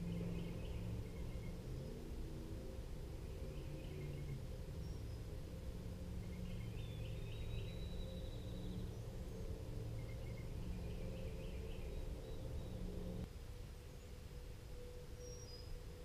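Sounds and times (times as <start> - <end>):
songbirds singing: 0.0 - 16.0
steady low hum: 0.0 - 16.0.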